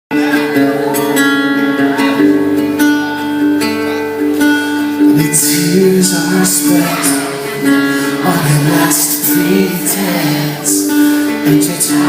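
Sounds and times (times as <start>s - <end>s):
acoustic guitar strumming chords: 0.1s - 12.0s.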